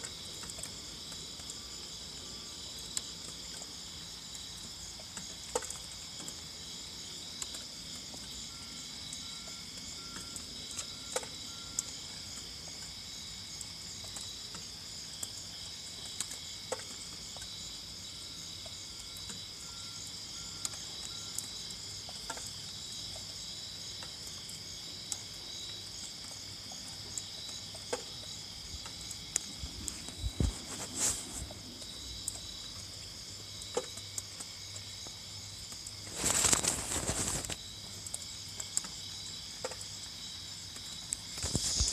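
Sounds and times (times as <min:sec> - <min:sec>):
crickets and insects chirping: 0:00.0 - 0:41.9
rustle: 0:00.0 - 0:41.9.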